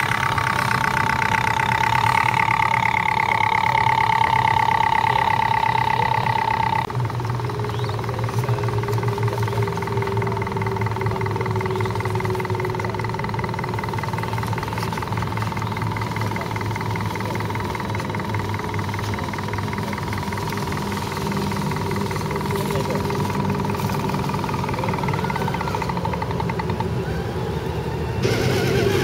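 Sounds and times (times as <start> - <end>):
rc truck motor whining: 0.0 - 29.0.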